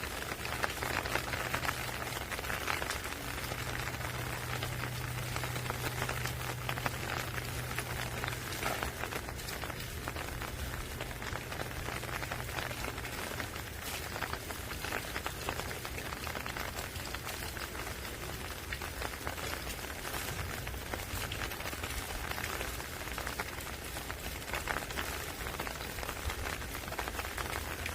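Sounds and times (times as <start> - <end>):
raindrops ticking on hard surface: 0.0 - 27.9
steady rain falling: 0.0 - 27.9.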